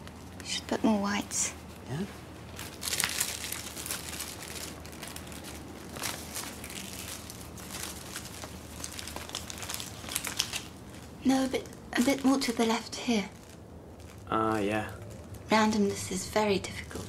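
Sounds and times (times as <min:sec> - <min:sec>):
low steady hum: 0:00.0 - 0:17.0
materials rustling and crinkling: 0:00.0 - 0:17.0.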